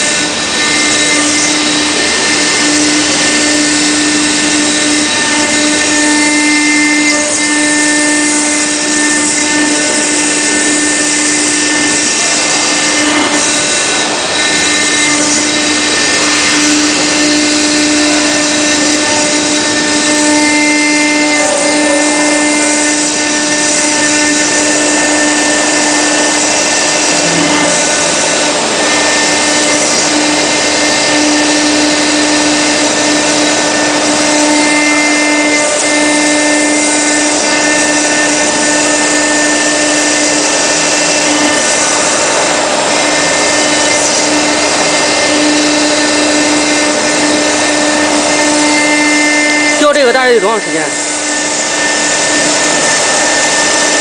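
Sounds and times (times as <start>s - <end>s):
hiss of stone cutting: 0.0s - 54.0s
router spindle hum: 0.0s - 54.0s.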